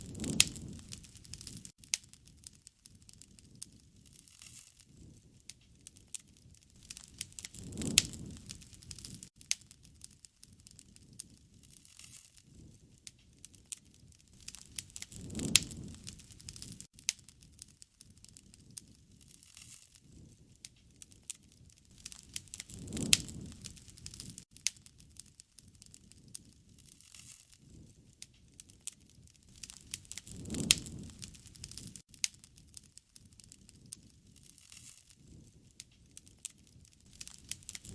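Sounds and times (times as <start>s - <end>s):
low rush of flame: 0.0s - 37.9s
sharp pops of fire: 0.0s - 37.9s
wood fire crackling: 0.0s - 37.9s.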